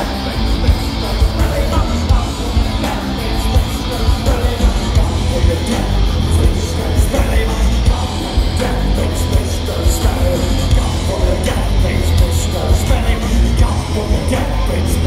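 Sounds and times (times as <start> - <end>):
thrash metal band playing live: 0.0 - 15.0.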